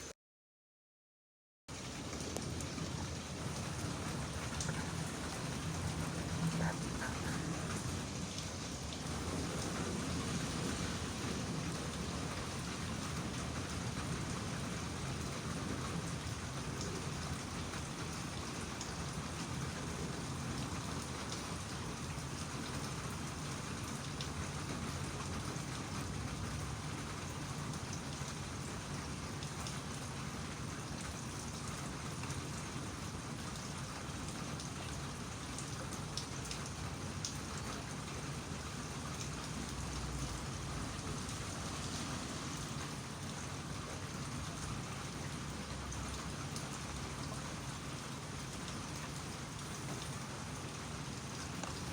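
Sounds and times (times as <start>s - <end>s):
rain pattering: 1.7s - 51.9s.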